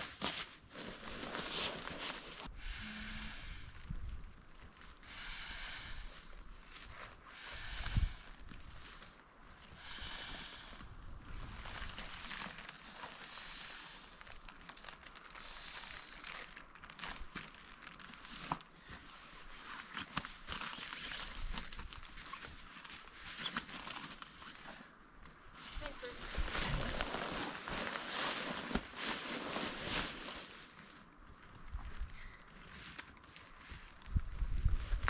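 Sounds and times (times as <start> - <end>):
rustling and crinkling: 0.0 - 2.5, 3.2 - 35.0.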